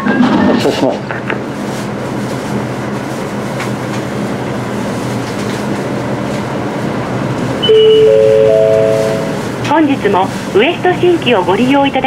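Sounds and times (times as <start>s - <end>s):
road and cabin noise: 0.0s - 12.0s
bus diesel engine running: 0.5s - 12.0s.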